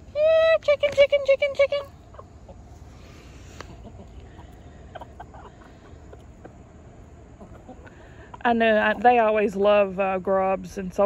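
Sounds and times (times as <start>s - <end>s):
chickens pecking: 0.0s - 9.6s
chickens clucking: 0.6s - 9.7s.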